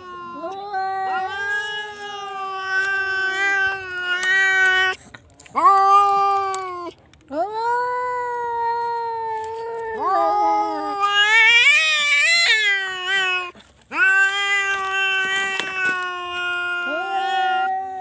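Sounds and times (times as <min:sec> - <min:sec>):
cat yowling: 0:00.0 - 0:05.0, 0:05.6 - 0:06.9, 0:09.9 - 0:18.0.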